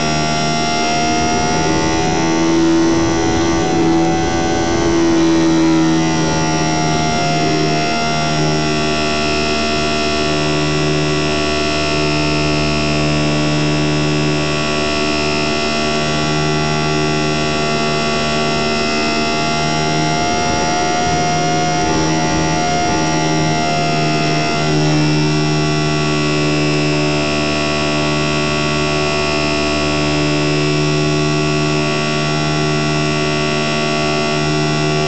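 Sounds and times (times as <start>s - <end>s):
model plane motor whining: 0.0s - 35.0s.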